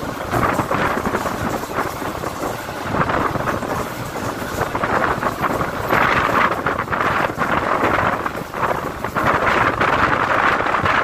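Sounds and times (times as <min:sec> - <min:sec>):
electric train running: 0:00.0 - 0:11.0
wind noise on microphone: 0:00.0 - 0:11.0.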